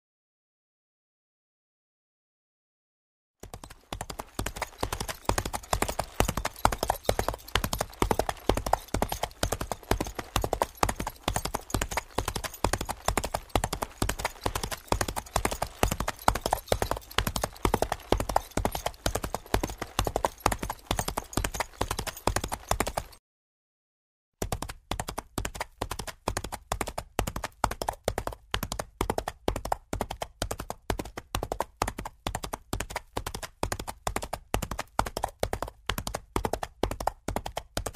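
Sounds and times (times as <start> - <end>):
hooves galloping on hard ground: 3.4 - 23.2, 24.4 - 37.9.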